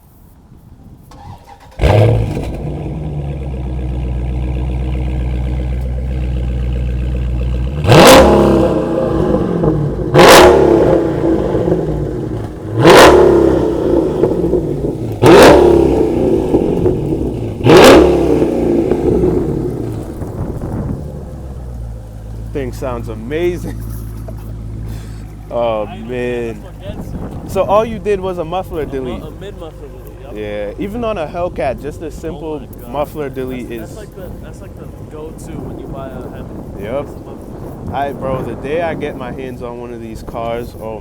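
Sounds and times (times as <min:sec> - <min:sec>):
car engine idling and revving: 0:01.1 - 0:41.0.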